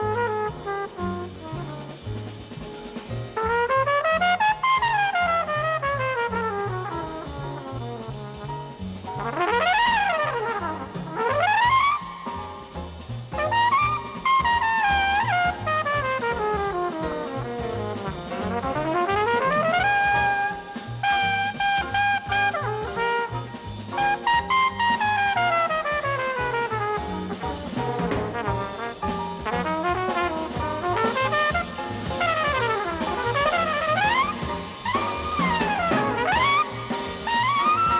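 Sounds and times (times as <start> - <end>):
bass: 0.0 - 37.9
drums: 0.0 - 37.9
flugelhorn jazz solo: 0.0 - 37.9.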